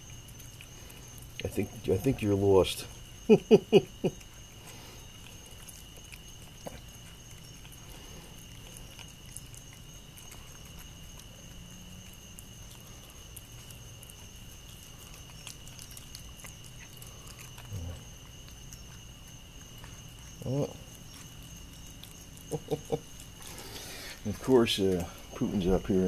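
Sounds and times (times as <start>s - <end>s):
cat chewing wet food: 0.0s - 25.4s.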